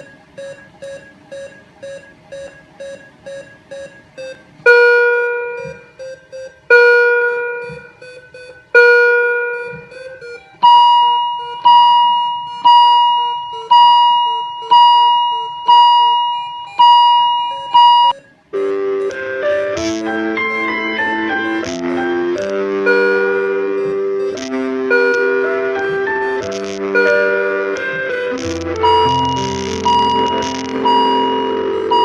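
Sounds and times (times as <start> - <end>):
electronic alarm chime tones: 0.0 - 32.0.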